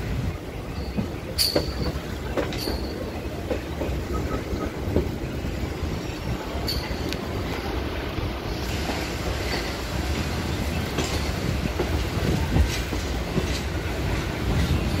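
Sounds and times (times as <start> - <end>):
clickety-clack of rail joints: 0.0 - 15.0
train wheels rumbling on rails: 0.0 - 15.0.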